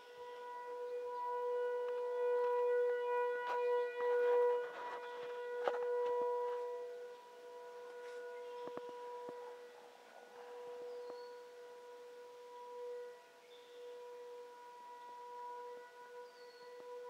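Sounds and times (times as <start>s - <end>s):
warning siren steady tone: 0.0s - 17.0s.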